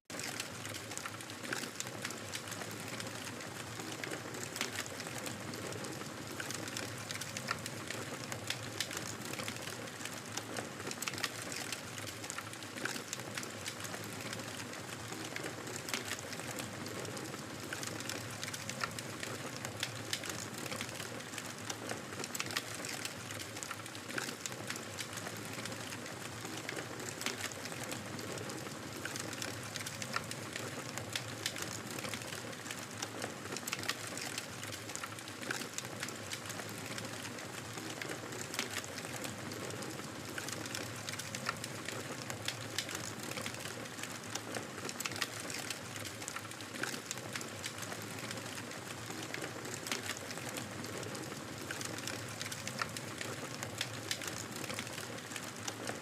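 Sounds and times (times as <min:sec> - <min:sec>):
wood fire crackling and popping: 0:00.1 - 0:56.0.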